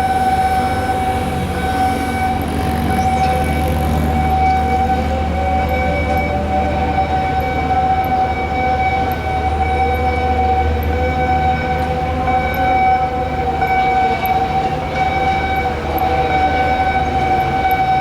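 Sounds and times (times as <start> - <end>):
alarm siren steady tone: 0.0 - 18.0
lower wavering tone: 0.0 - 18.0.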